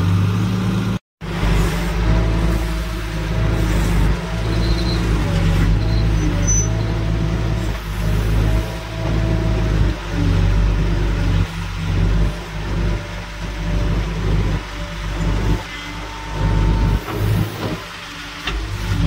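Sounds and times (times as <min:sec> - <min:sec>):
diesel engine working hard: 0:00.0 - 0:19.0.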